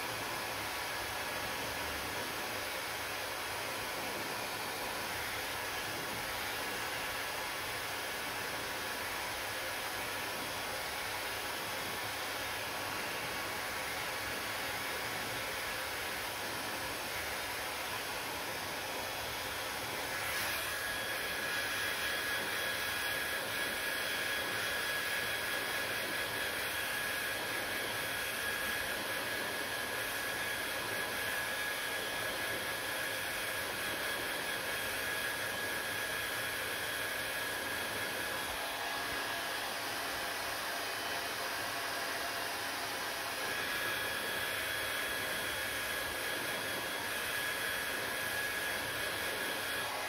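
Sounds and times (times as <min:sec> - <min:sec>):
hair dryer blowing: 0:00.0 - 0:50.0.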